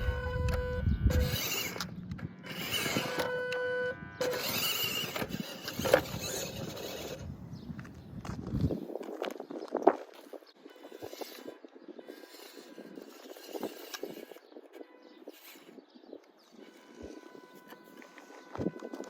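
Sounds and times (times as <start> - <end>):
toy truck motors whining: 0.0 - 7.4, 10.1 - 19.0.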